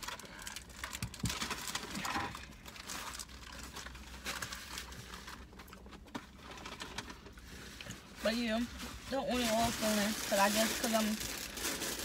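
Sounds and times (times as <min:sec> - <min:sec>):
food packaging clicks and rustles: 0:00.0 - 0:12.0.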